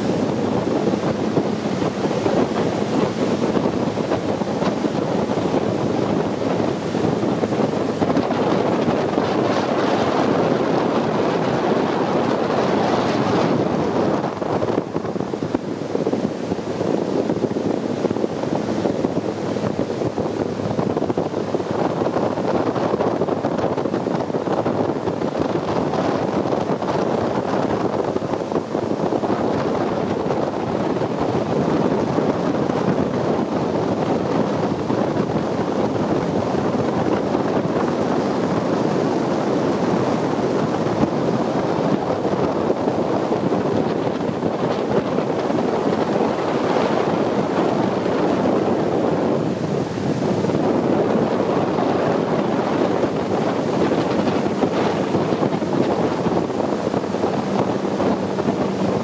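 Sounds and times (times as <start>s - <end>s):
boat engine running: 0.0s - 59.0s
water rushing past hull: 0.0s - 59.0s
wind buffeting microphone: 0.0s - 59.0s.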